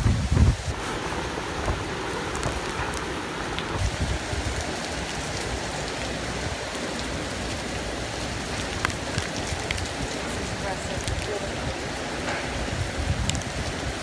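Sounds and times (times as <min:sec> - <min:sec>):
torrential rain: 0:00.0 - 0:14.0
wind rumbling on microphone: 0:00.0 - 0:14.0.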